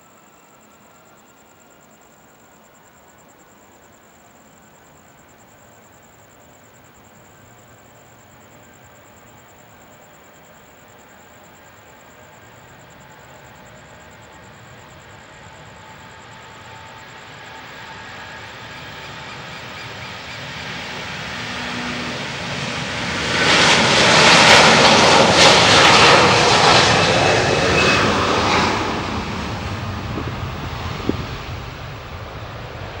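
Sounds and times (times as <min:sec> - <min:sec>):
jet engines at takeoff power: 0:04.7 - 0:33.0.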